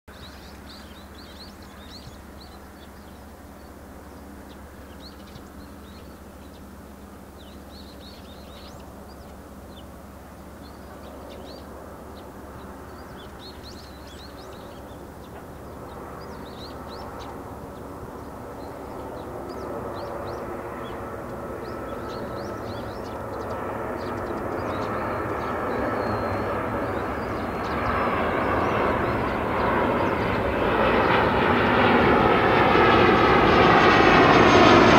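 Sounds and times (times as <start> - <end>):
birds chirping: 0.1 - 34.9
jet airliner engines: 0.1 - 34.9.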